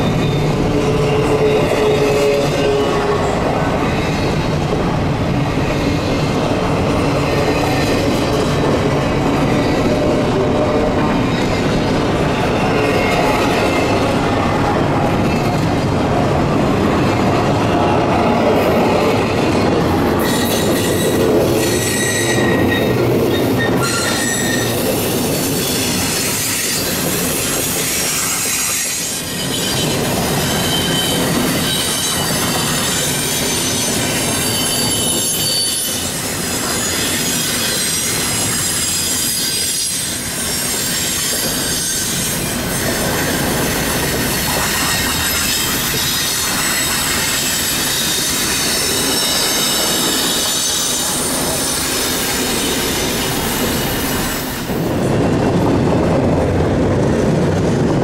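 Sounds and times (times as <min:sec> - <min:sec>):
steel wheels squealing on rail: 0:00.0 - 0:16.3, 0:17.0 - 0:55.6
freight train rumble with clatter: 0:00.0 - 0:58.0.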